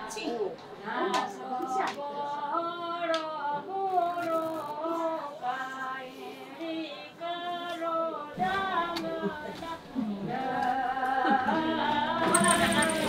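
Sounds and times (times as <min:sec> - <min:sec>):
woman singing song: 0:00.0 - 0:13.0.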